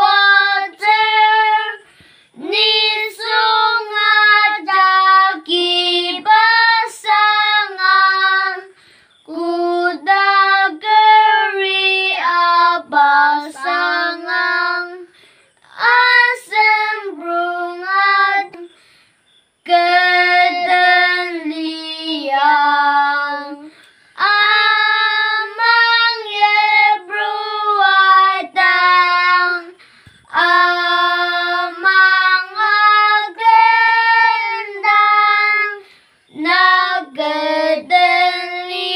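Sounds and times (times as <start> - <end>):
boys singing a hymn: 0.0 - 18.8, 19.6 - 38.9.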